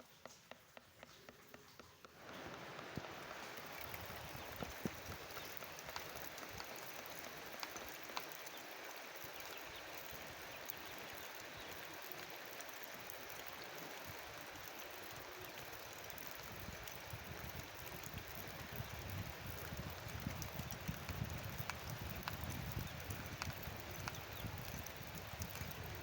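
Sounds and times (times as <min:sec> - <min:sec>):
steady rain patter: 0:00.0 - 0:26.0.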